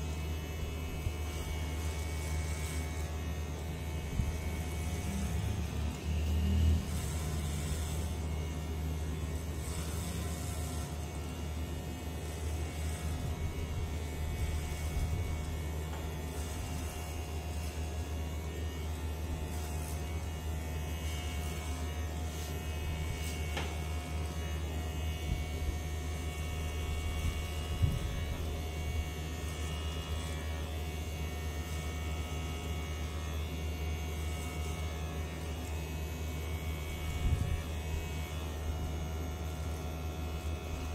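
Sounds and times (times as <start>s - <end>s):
electric hair clippers buzzing: 0.0s - 40.9s.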